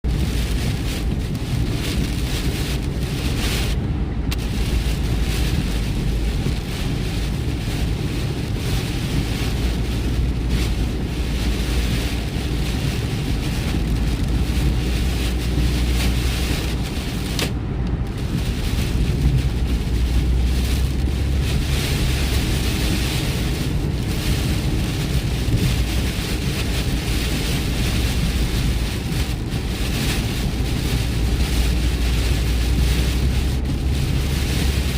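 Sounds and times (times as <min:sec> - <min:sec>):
low road rumble: 0:00.0 - 0:34.9
tyres hissing on wet pavement: 0:00.1 - 0:34.9.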